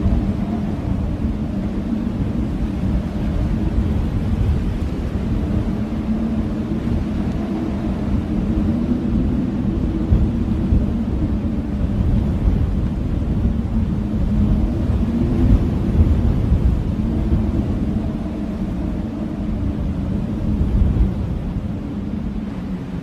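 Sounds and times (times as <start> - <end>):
howling blizzard wind: 0.0 - 23.0.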